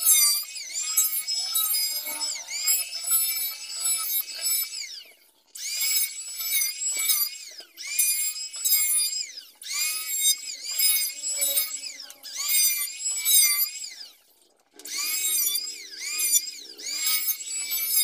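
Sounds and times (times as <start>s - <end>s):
electric planer cutting wood: 0.0s - 14.2s, 14.8s - 18.0s.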